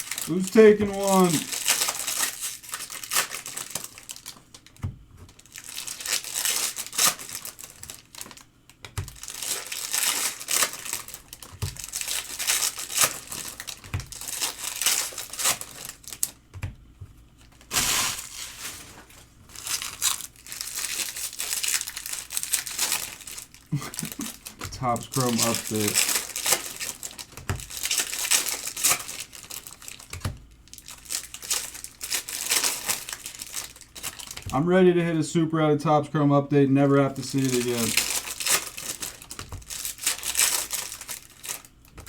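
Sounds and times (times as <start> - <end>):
foil wrappers crinkling and tearing: 0.0 - 16.6, 17.3 - 34.7, 36.8 - 42.0.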